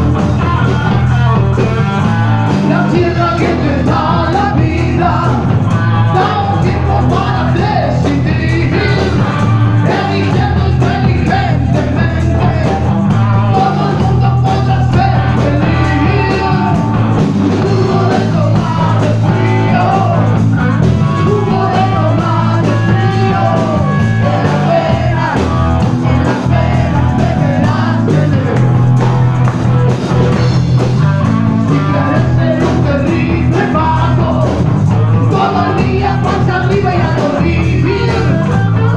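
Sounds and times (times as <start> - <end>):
person singing: 0.0 - 28.9, 31.6 - 38.9
bass line: 0.0 - 38.9
guitar: 0.0 - 38.9.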